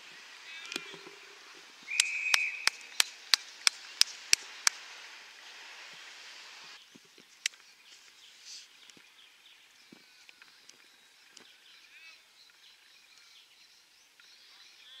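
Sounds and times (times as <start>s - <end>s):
faint bird calls and chirps: 0.0s - 4.9s, 6.7s - 15.0s.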